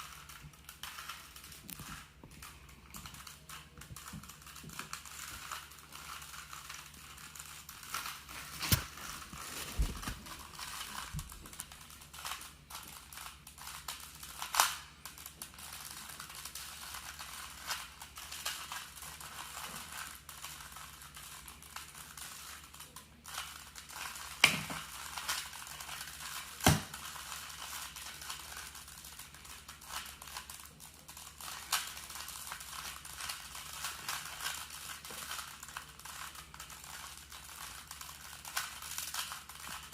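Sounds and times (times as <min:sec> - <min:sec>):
plastic puzzle clicking and rattling: 0:00.0 - 0:39.9.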